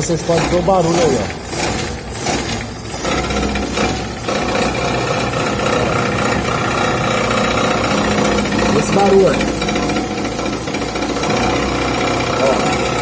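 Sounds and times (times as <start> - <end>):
car engine running: 0.0 - 13.0
metallic rattle and buzz: 0.0 - 13.0.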